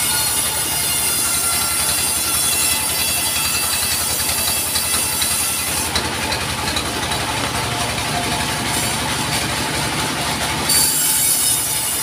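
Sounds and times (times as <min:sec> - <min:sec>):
saw blade cutting log: 0:00.0 - 0:12.0
sawmill engine running: 0:00.0 - 0:12.0.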